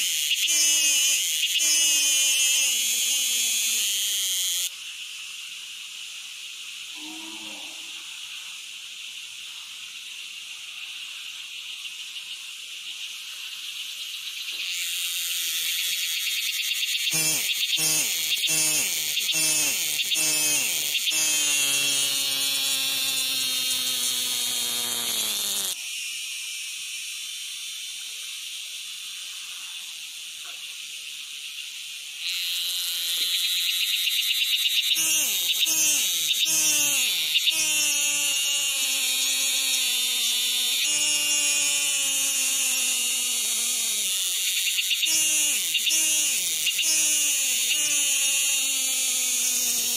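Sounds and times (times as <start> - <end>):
insects buzzing high-pitched: 0.0 - 49.9.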